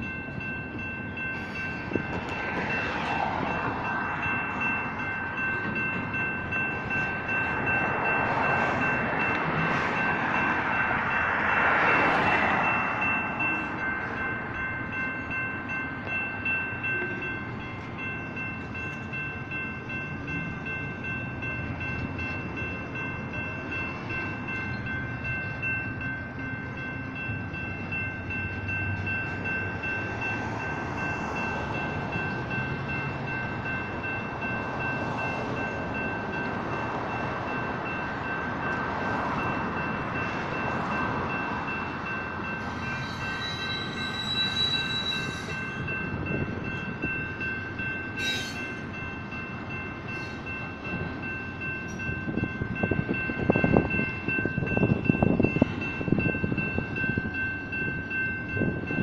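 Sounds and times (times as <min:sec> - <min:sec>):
crossing warning bells ringing: 0:00.0 - 0:59.0
freight train rumbling over rails: 0:00.0 - 0:59.0
train cars clanking: 0:00.0 - 0:59.0.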